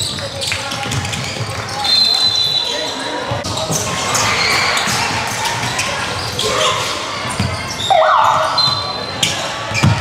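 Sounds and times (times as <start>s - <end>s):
players' voices: 0.0s - 10.0s.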